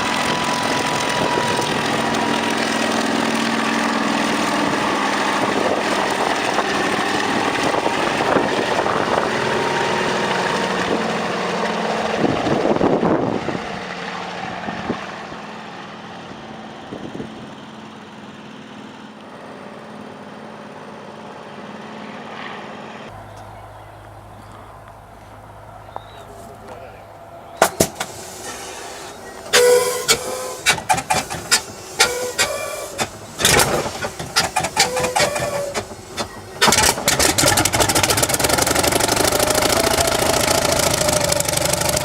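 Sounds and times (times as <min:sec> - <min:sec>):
helicopter engine and rotor: 0:00.0 - 0:26.2, 0:27.1 - 0:42.0.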